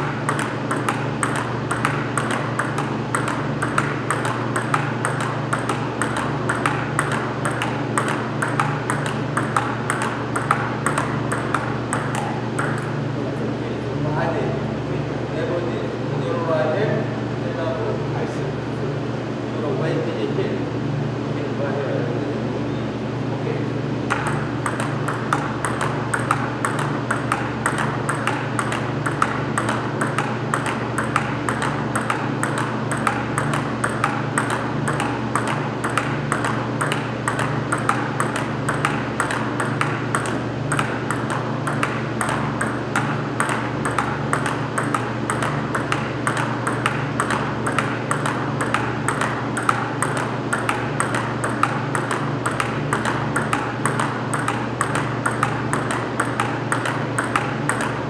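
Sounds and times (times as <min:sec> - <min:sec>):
table tennis ball clicks: 0:00.0 - 0:12.9, 0:24.1 - 0:58.0.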